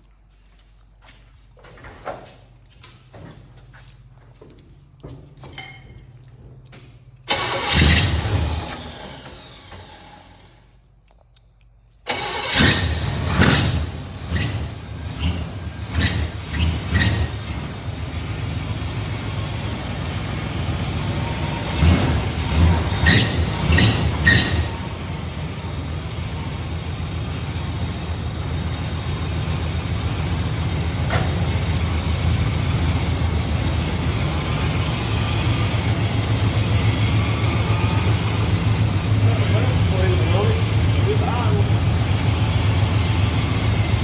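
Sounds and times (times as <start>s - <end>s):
car engine running: 7.3s - 10.6s, 12.1s - 44.0s.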